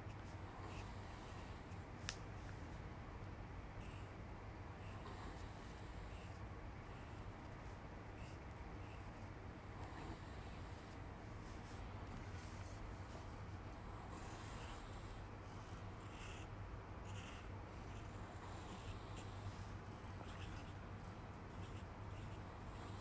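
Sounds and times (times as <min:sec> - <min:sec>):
pencil scratching on paper: 0:00.0 - 0:01.7, 0:04.8 - 0:13.4, 0:14.0 - 0:20.8, 0:21.5 - 0:23.0
steady low hum: 0:00.0 - 0:23.0.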